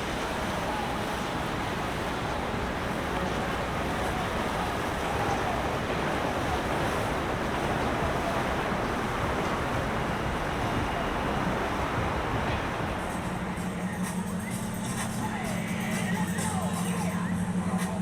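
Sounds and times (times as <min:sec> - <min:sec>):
wind buffeting microphone: 0:00.0 - 0:15.4
moving water: 0:00.0 - 0:18.0
wind: 0:00.0 - 0:18.0.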